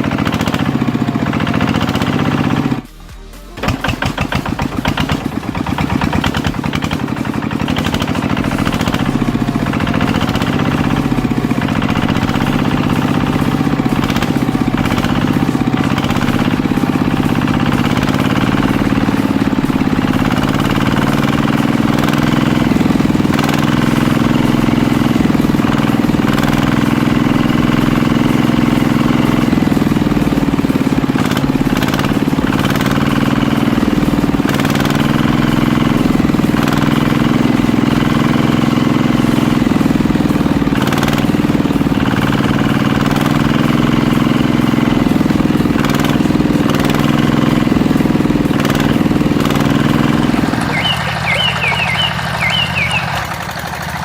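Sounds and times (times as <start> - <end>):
small engine idling: 0.0 - 54.0.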